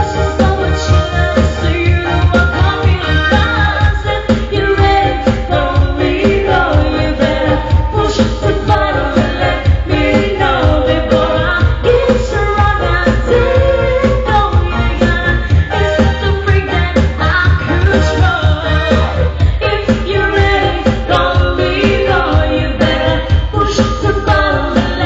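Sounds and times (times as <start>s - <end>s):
pop song with dance beat: 0.0s - 25.0s.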